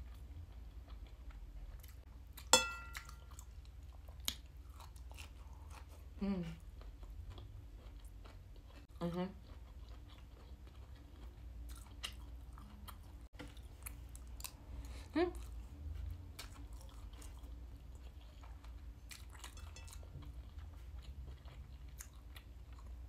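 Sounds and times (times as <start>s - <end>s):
chewing with wet mouth clicks: 0.0s - 6.0s, 6.8s - 14.6s, 15.4s - 23.0s.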